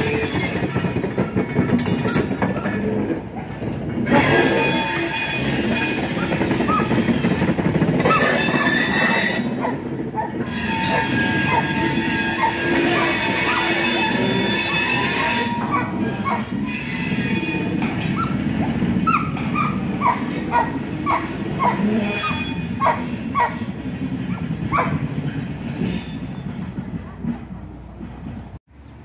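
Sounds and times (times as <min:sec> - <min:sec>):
train wheel squeal: 0:00.0 - 0:03.1, 0:04.1 - 0:28.5.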